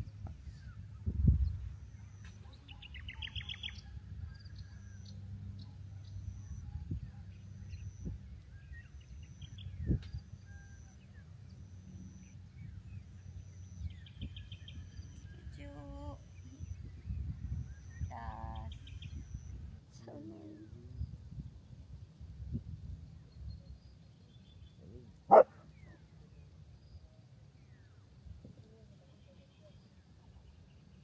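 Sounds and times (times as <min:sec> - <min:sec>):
birds chirping: 0:00.0 - 0:21.1, 0:23.1 - 0:28.0.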